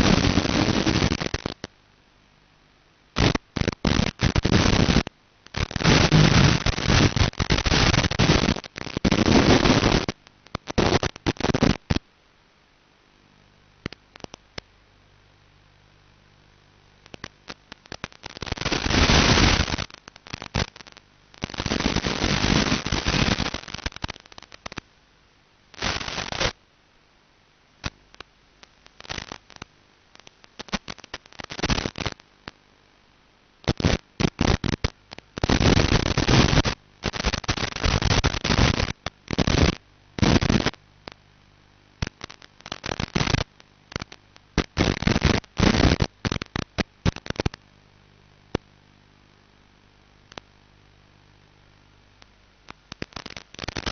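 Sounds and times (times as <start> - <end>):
crackling radio static: 0.0 - 53.9.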